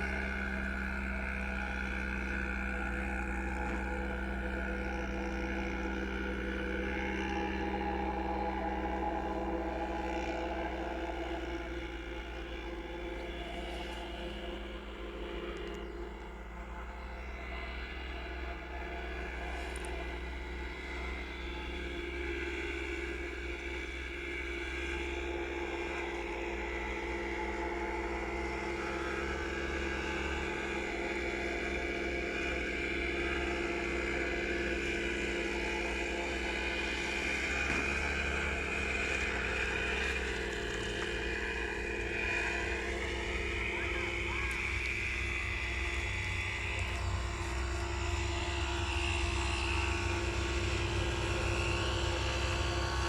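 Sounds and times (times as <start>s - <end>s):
pit bike engine running: 0.0s - 53.0s.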